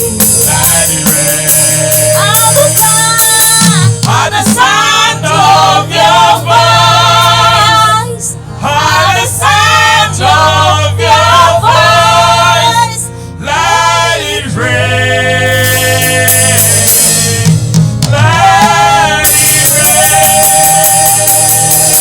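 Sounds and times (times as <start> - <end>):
group singing gospel song: 0.0 - 22.0
instrumental backing: 0.0 - 22.0.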